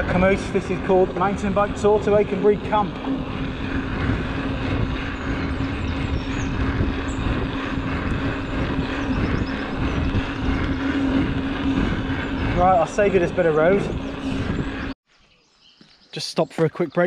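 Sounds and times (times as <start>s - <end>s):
bike tyre hum on tarmac: 0.0s - 15.0s
wind on microphone: 0.0s - 15.0s.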